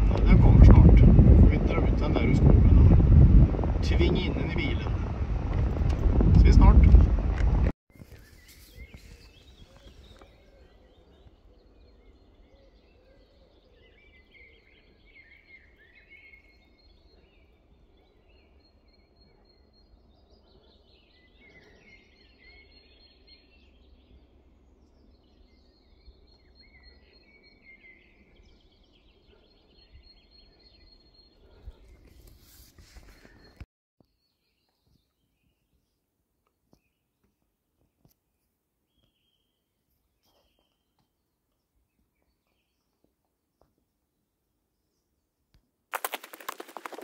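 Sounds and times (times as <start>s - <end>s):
faint birdsong: 7.9s - 47.0s.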